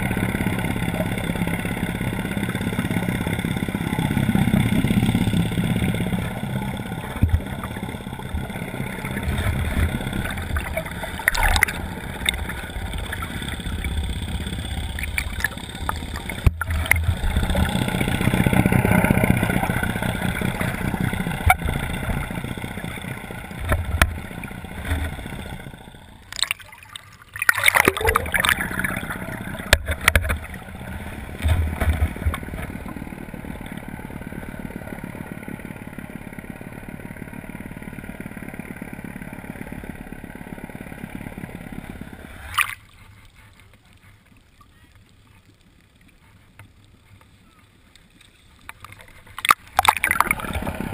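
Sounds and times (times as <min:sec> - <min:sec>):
water gurgling and splashing: 0:00.0 - 0:36.6, 0:40.2 - 0:45.1, 0:48.5 - 0:50.9
boat engine running: 0:00.0 - 0:50.9.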